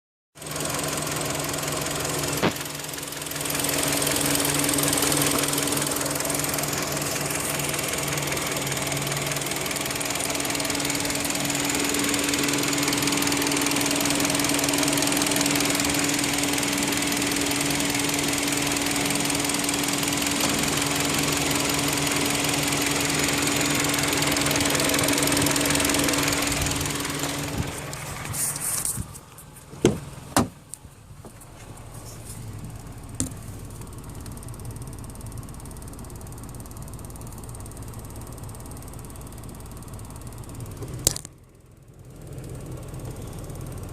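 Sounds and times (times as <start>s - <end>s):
fast ticking from engine: 0.4s - 28.1s, 32.6s - 43.9s
car engine running: 0.4s - 43.9s.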